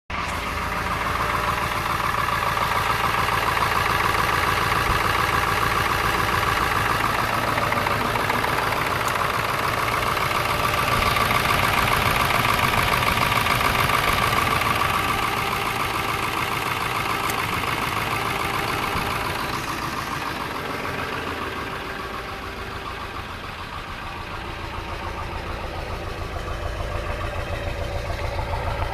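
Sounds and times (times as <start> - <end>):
diesel engine idling: 0.1 - 28.9.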